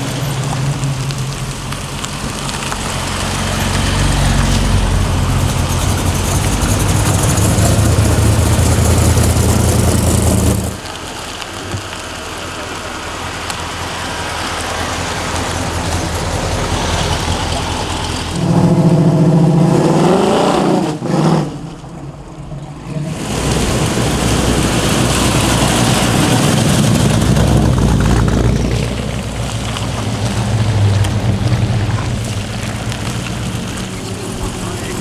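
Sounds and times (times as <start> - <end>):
car engine revving: 0.0 - 35.0
muscle car engines running: 0.0 - 35.0.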